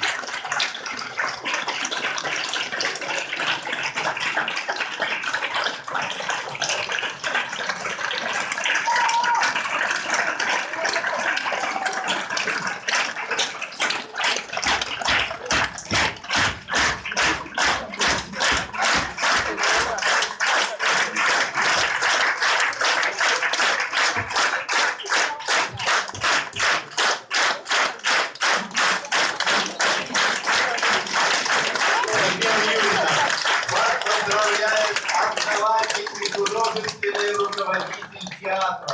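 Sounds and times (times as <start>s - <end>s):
audience applauding: 0.0s - 38.9s
rhythmic clapping in unison: 0.0s - 38.9s.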